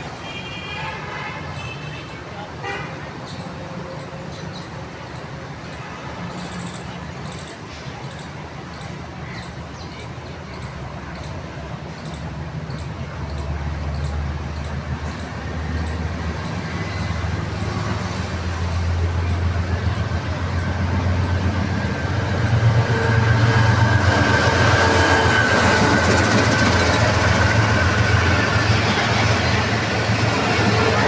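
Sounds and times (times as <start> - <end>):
diesel locomotive engine: 0.0 - 31.0
train wheels clattering on rails: 5.6 - 31.0.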